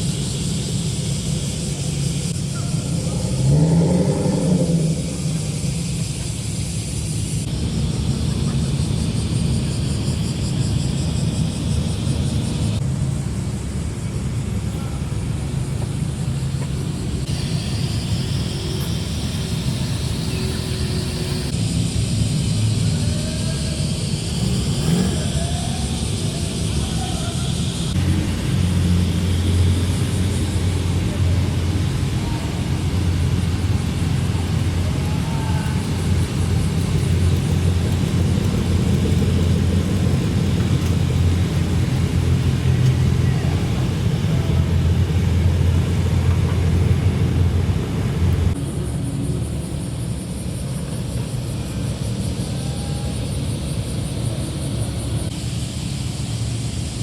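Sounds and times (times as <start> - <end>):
car exhaust rumbling: 0.0 - 57.0.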